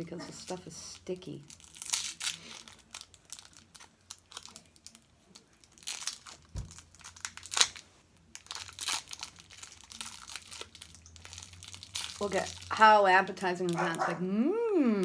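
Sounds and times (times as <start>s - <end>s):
plastic wrapper crinkling and tearing: 0.4s - 14.2s.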